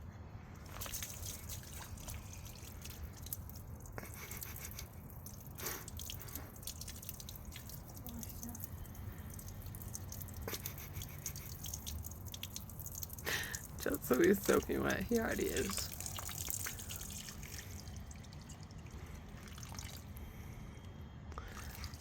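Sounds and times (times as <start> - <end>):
water dripping and splashing: 0.5 - 20.2, 21.4 - 22.0.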